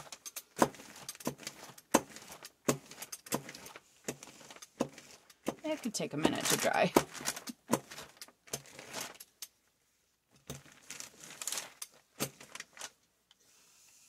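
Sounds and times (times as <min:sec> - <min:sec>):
plastic sheeting rustling: 0:00.0 - 0:09.2, 0:10.5 - 0:13.0
brayer and paper clicks and knocks: 0:00.0 - 0:09.6, 0:10.3 - 0:13.0.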